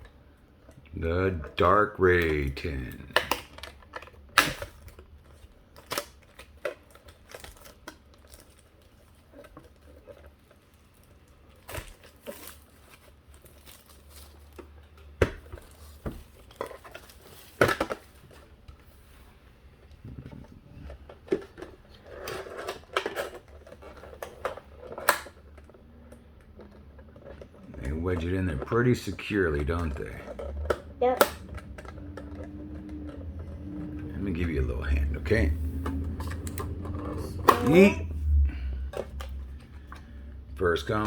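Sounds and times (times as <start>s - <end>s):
packs crinkling: 0.0s - 41.0s.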